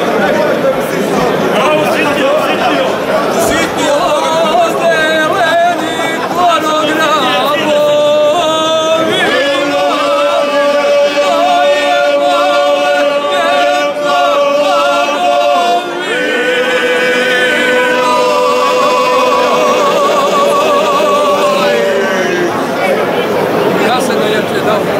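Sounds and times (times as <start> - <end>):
men singing folk song: 1.6 - 22.7.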